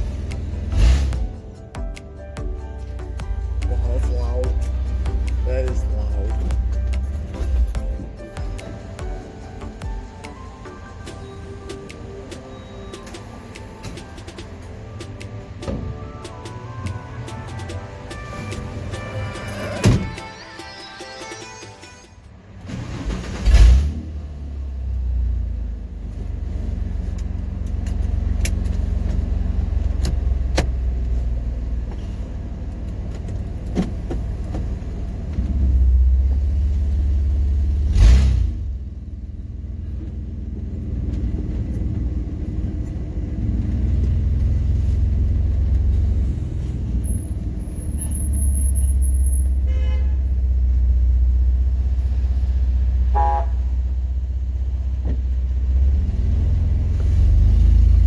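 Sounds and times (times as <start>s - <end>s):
engine deep rumble: 0.0s - 20.2s, 22.3s - 58.0s.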